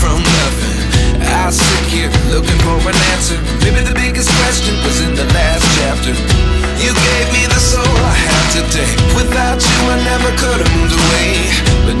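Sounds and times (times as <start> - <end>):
song with heavy bass: 0.0 - 12.0.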